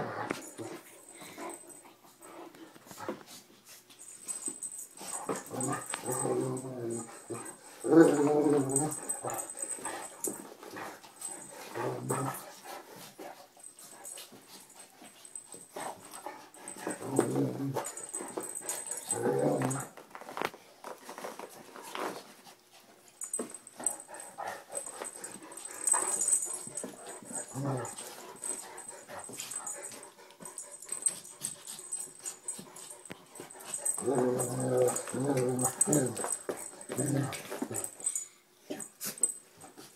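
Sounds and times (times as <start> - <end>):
dogs scuffling: 2.2 - 38.2.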